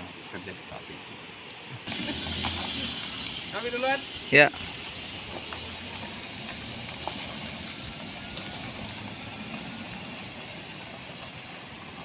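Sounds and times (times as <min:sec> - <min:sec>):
tyres on gravel: 0:01.7 - 0:12.0
car engine: 0:01.8 - 0:12.0.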